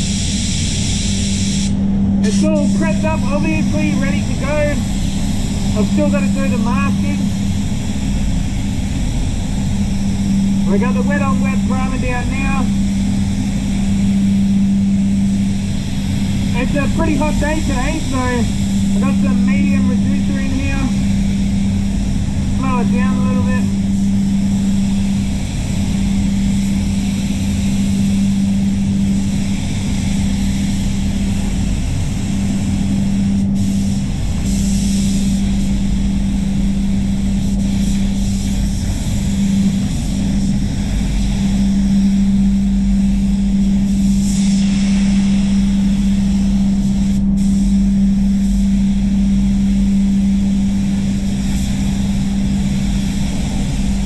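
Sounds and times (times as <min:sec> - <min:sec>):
air extraction hum and rush: 0:00.0 - 0:54.0
spray gun hissing: 0:00.0 - 0:54.0.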